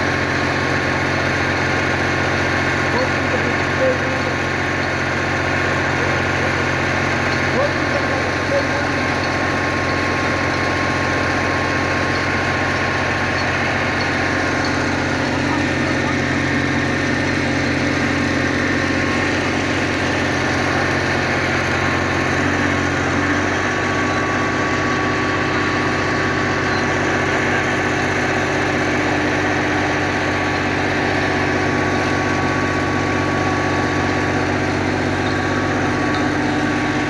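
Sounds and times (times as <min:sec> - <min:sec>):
machine engine hum: 0:00.0 - 0:37.0.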